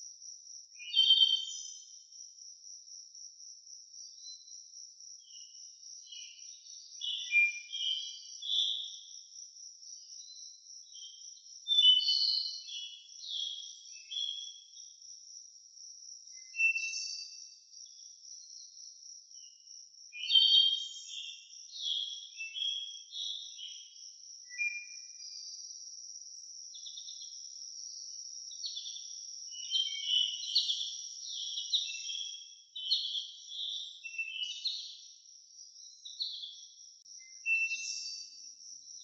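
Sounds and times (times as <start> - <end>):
insect trill: 0.0 - 39.0
songbirds singing: 0.0 - 39.0.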